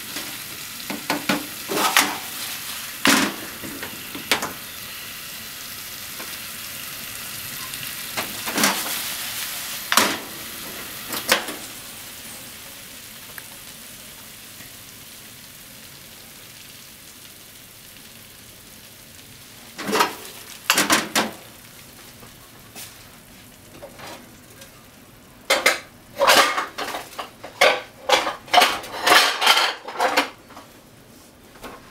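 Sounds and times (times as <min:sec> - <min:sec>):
food sizzling in a frying pan: 0:00.0 - 0:31.1.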